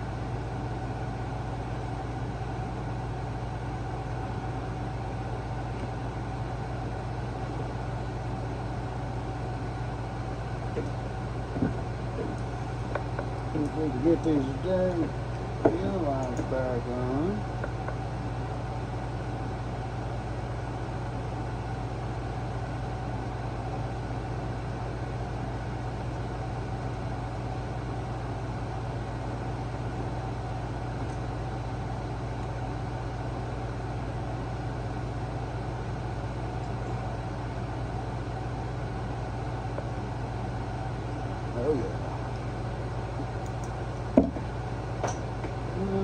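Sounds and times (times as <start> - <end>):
air conditioner humming: 0.0 - 46.0.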